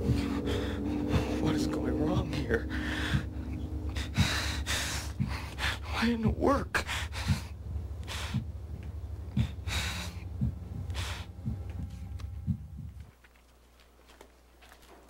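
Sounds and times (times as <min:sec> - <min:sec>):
low throbbing drone: 0:00.0 - 0:13.1
man breathing heavily: 0:00.0 - 0:13.1.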